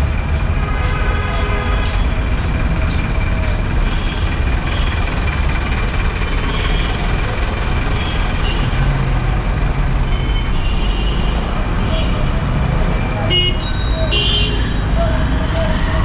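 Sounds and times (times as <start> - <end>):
bus engine rumbling: 0.0 - 16.0
street traffic: 0.0 - 16.0.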